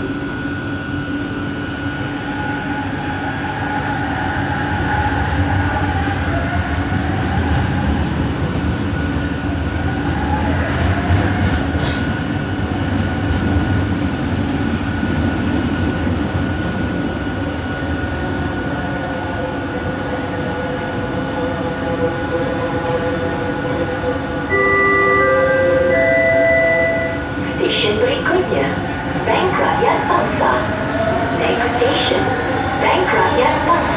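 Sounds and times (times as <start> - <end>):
metro train cabin rumble: 0.0 - 33.9.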